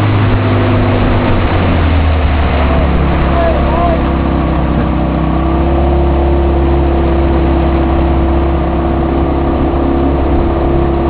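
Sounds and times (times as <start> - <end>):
continuous rushing noise: 0.0 - 11.0
outboard motor drone: 0.0 - 11.0.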